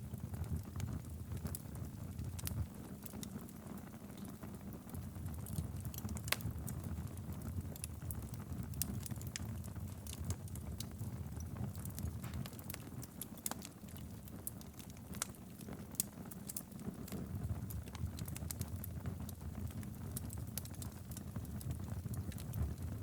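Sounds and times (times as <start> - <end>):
wood fire burning: 0.0 - 23.0.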